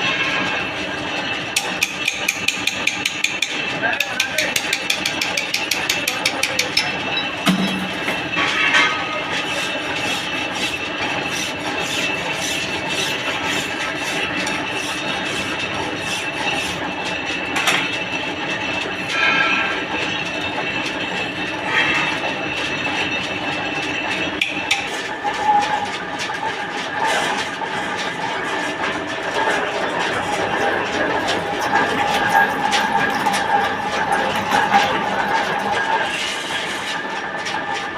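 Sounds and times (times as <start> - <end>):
metal lathe running: 0.0 - 37.9.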